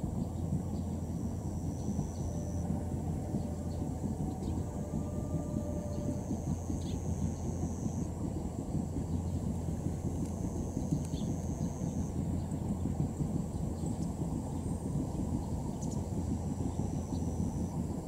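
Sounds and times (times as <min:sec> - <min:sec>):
distant train rumbling: 0:00.0 - 0:18.0.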